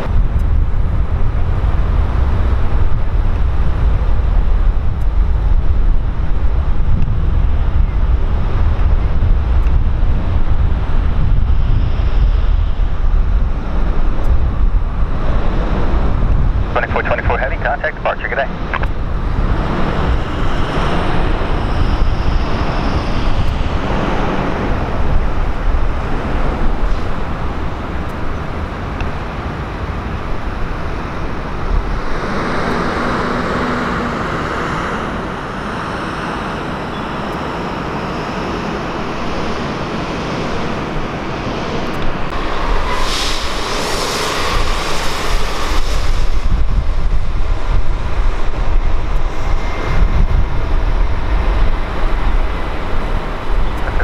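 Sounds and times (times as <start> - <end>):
jet engines running: 0.0 - 54.0
wind buffeting microphone: 0.0 - 54.0.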